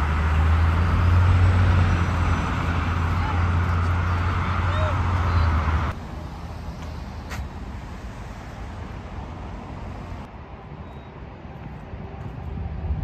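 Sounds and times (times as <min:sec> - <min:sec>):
engine hum: 0:00.0 - 0:13.0
traffic rumble: 0:00.0 - 0:13.0.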